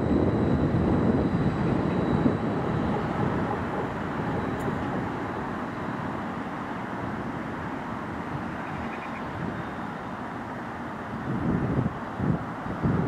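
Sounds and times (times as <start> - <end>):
faint high whine: 0.0 - 13.0
train engine and wheel noise: 0.0 - 13.0.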